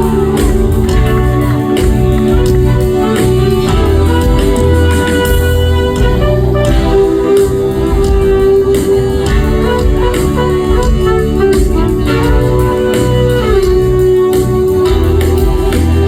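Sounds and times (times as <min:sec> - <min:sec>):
funk band playing instrumental: 0:00.0 - 0:16.0.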